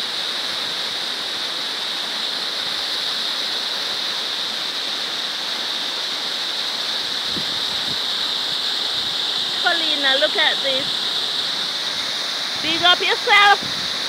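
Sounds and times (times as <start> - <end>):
waterfall rushing and splashing: 0.0 - 14.0.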